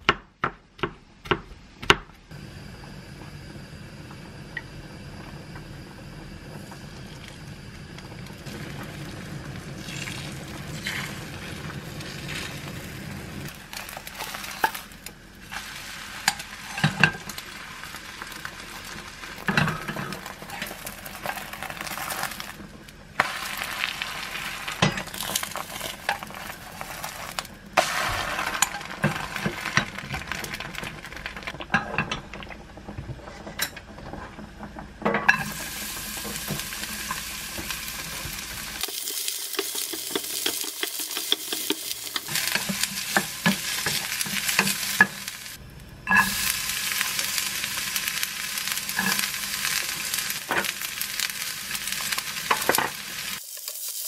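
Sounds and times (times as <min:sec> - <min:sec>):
egg sizzling in frying pan: 0:06.4 - 0:32.6, 0:35.3 - 0:54.0
vegetables frying: 0:06.6 - 0:32.8, 0:35.3 - 0:54.0.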